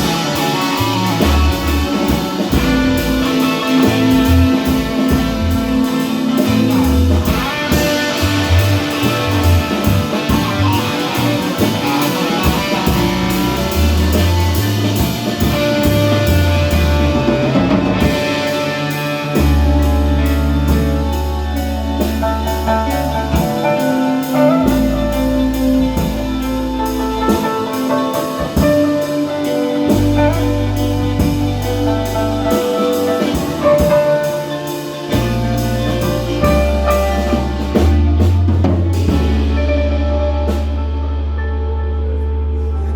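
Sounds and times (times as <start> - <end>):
jazz music with drums and horns: 0.0 - 42.9.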